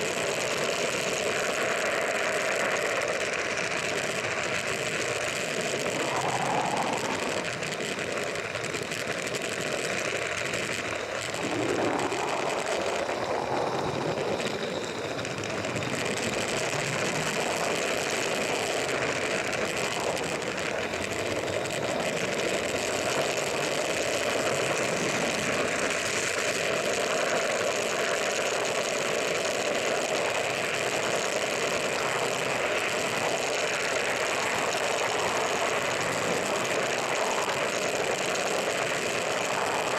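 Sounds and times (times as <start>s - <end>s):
model steam locomotive running: 0.0s - 39.9s.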